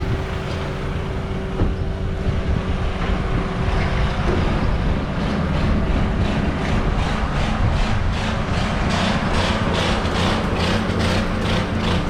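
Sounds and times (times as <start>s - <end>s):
motor hum and low rumble: 0.0s - 12.0s.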